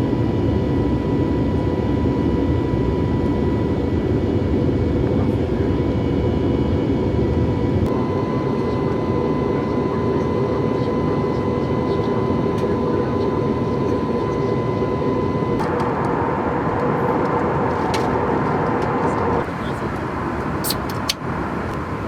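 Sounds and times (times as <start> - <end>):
airplane cabin engine drone: 0.0 - 22.0.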